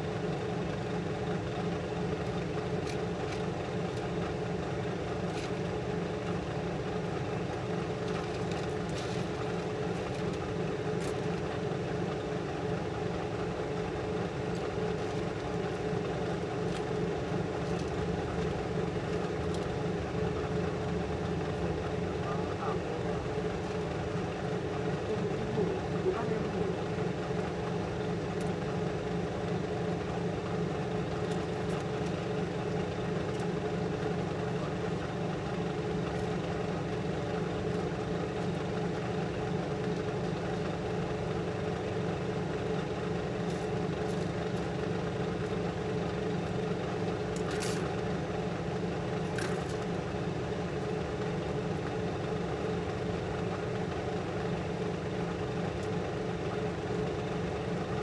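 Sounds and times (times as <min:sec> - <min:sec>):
blower fan humming: 0:00.0 - 0:58.0.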